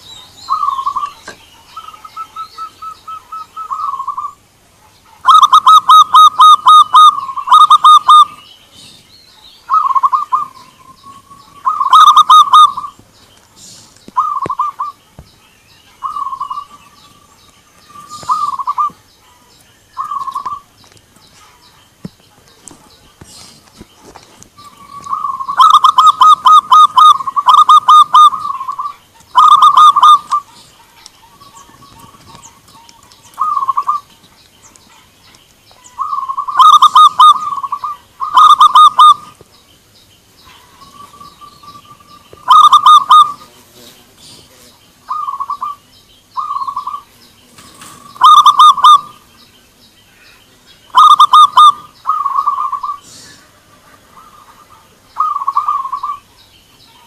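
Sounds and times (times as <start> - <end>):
doves cooing: 0.0 - 39.5, 40.4 - 49.5, 50.2 - 57.0.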